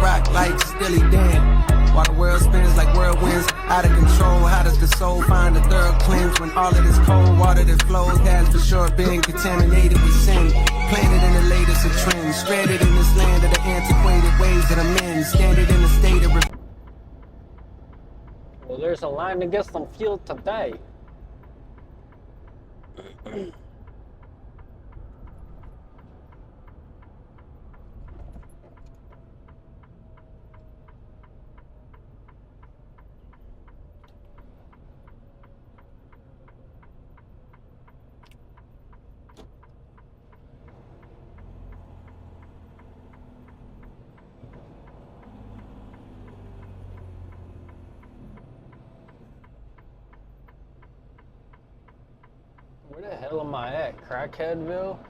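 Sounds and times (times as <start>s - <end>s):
low engine rumble: 0.0s - 55.0s
turn signal ticking: 0.0s - 55.0s.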